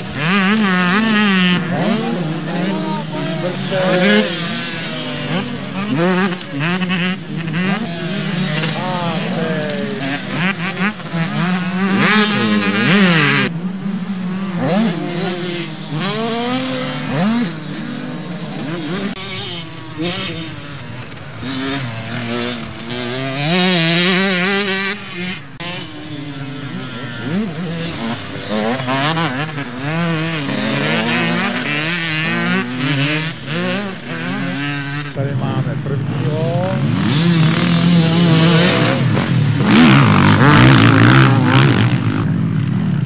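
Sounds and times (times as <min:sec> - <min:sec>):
motocross motorcycles racing past: 0:00.0 - 0:43.0.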